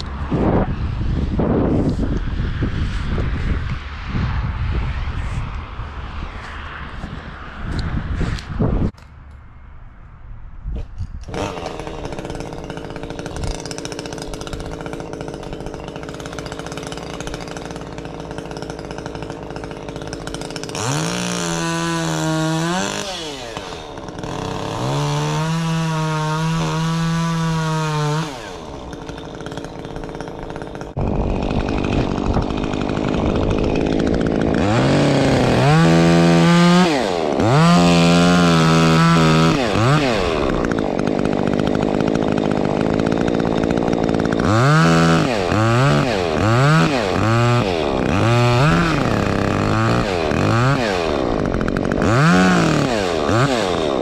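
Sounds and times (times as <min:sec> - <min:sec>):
chainsaw idling and revving: 0:00.0 - 0:02.3, 0:11.2 - 0:54.0.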